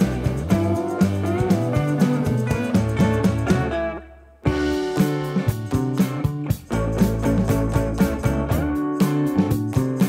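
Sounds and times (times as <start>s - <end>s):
instrumental music with beat: 0.0s - 10.0s.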